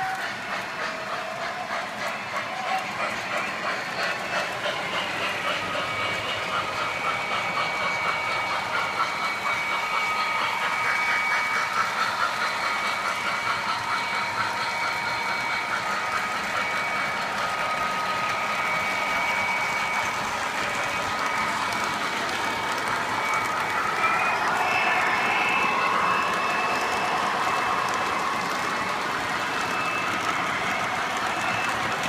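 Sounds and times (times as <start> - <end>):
model train motor whine: 0.0 - 32.0.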